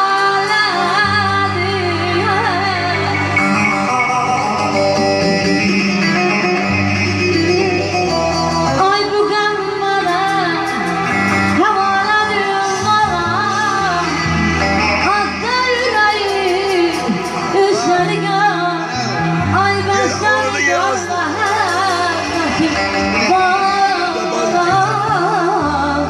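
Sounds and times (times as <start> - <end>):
woman singing into a microphone: 0.0 - 4.7, 8.6 - 26.0
instrumental backing music: 0.0 - 26.0.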